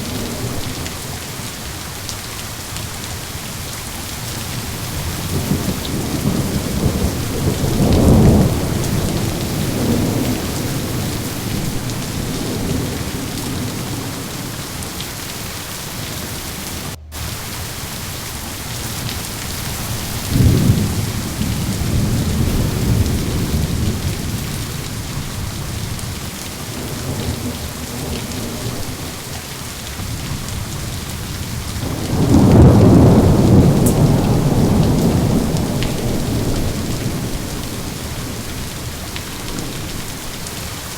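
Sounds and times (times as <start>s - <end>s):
heavy rain: 0.0s - 40.9s
rolling thunder: 0.0s - 40.9s.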